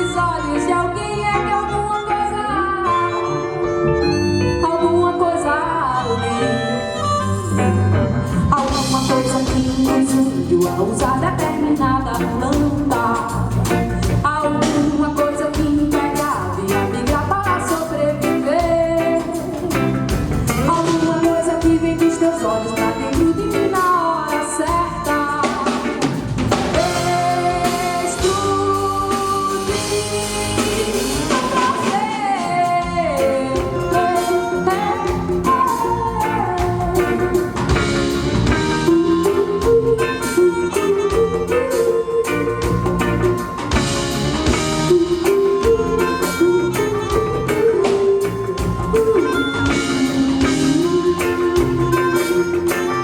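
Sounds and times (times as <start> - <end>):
electric guitar: 0.0 - 53.0
keyboards: 0.0 - 53.0
sliding melodic lead line: 0.0 - 53.0
drum kit beat: 7.4 - 53.0.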